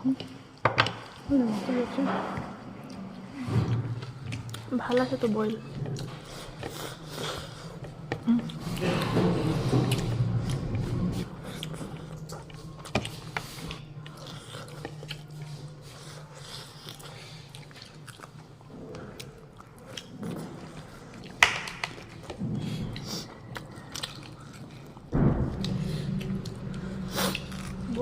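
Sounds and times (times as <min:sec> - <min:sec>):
steady low hum: 0:01.2 - 0:19.8, 0:22.1 - 0:28.0
person chewing food: 0:02.8 - 0:28.0.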